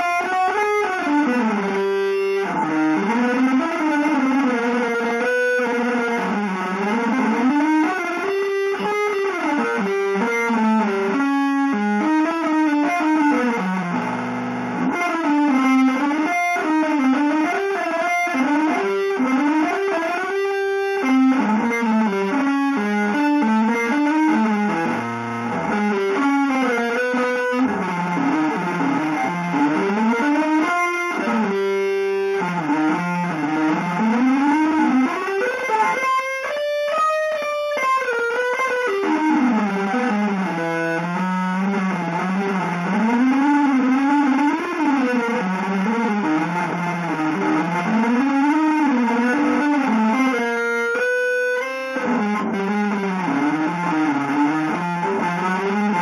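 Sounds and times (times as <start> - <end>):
electric guitar improvising: 0.0 - 56.0.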